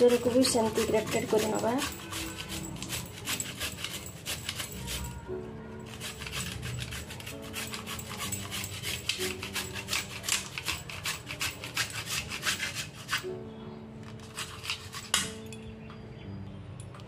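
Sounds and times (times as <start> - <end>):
carrot rasping on a grater: 0.0 - 13.3, 14.1 - 15.2
faint background music: 0.0 - 17.0.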